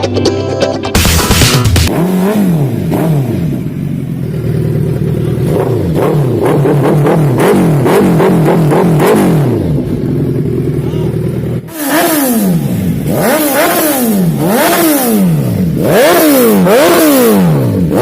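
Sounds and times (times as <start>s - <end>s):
motorcycle engine revving: 1.0s - 18.0s.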